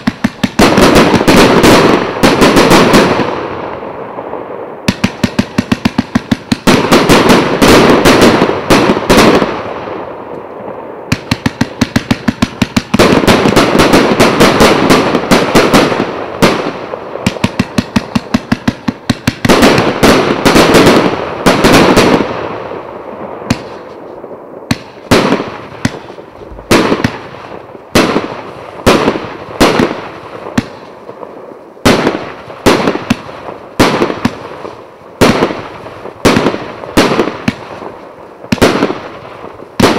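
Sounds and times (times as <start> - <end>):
firework bursts overhead: 0.0 - 39.9
fireworks firing volleys: 0.0 - 39.9.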